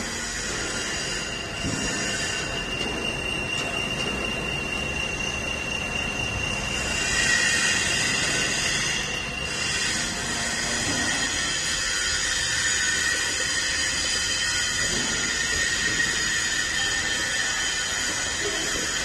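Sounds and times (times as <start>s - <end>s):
wood lathe machine noise: 0.0s - 19.0s.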